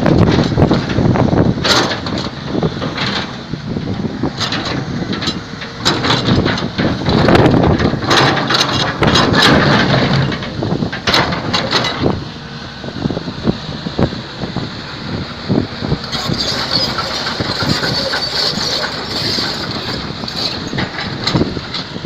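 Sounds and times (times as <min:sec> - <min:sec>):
sharp clanks and crunching: 0:00.0 - 0:12.2, 0:15.9 - 0:22.0
excavator diesel engine: 0:00.0 - 0:22.0.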